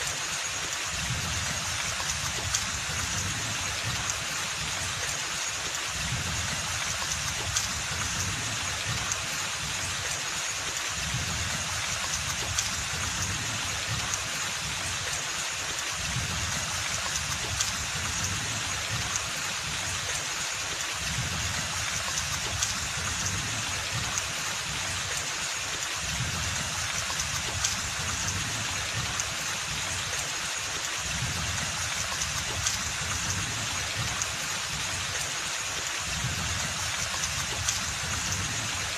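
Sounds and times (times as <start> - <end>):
rain on foliage: 0.0 - 38.9.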